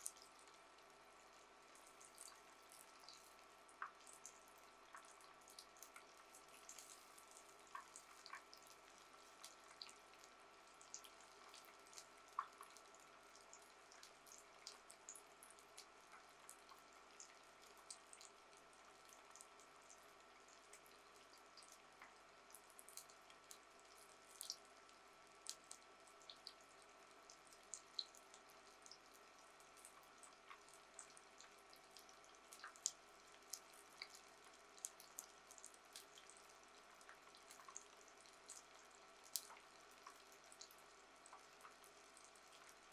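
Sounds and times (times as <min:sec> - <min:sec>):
frying oil crackles and pops: 0:00.0 - 0:42.9.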